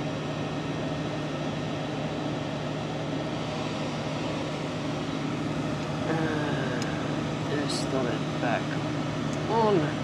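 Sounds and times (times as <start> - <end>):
machinery low hum: 0.0 - 10.0.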